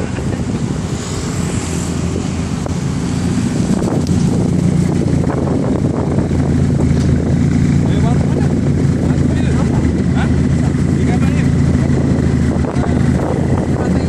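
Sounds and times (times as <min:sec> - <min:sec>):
sports car engine: 0:00.0 - 0:14.0
wind buffeting microphone: 0:00.0 - 0:14.0.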